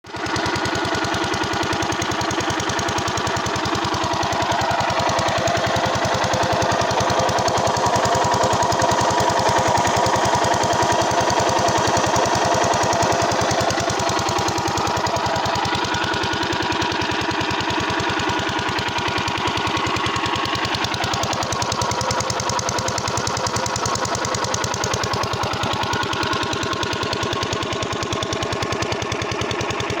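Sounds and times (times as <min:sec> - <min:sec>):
diesel engine knocking: 0:00.1 - 0:30.0.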